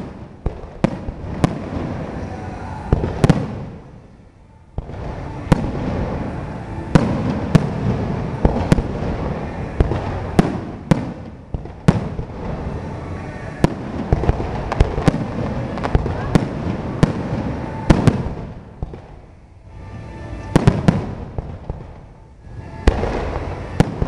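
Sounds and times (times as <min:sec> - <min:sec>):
fireworks bangs: 0:00.0 - 0:04.1, 0:04.8 - 0:24.0
continuous rumble: 0:00.0 - 0:24.0.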